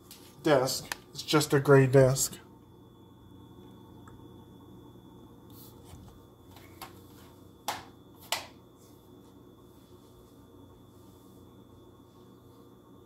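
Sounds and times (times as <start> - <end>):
faint thin whine: 0.0 - 13.0
low hum: 2.0 - 13.0.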